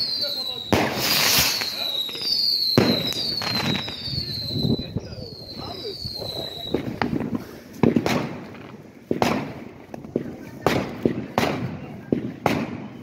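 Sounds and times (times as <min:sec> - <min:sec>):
fireworks bangs and crackling: 0:00.0 - 0:13.0
fireworks whistling: 0:00.0 - 0:13.0.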